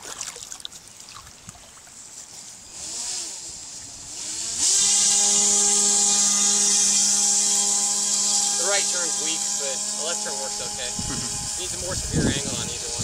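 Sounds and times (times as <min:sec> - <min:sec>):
electric motor and propeller whine: 0:02.2 - 0:13.0.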